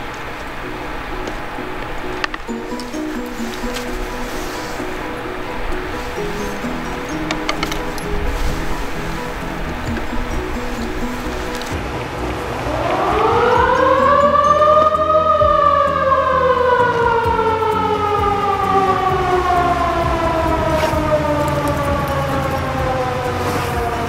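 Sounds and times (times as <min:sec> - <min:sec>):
siren wailing: 0:01.0 - 0:24.0.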